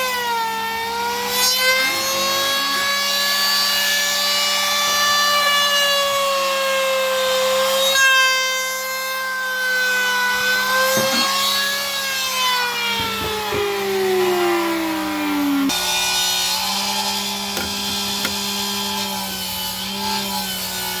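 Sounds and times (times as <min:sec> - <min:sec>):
power tool motor cutting wood: 0:00.0 - 0:21.0.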